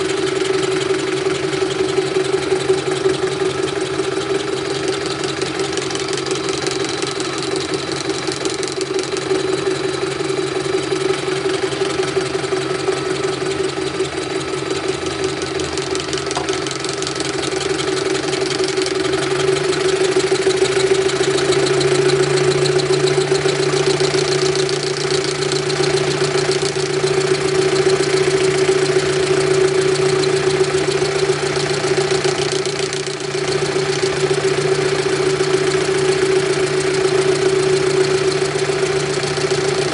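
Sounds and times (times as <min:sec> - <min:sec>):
machine-tool motor humming: 0:00.0 - 0:39.9.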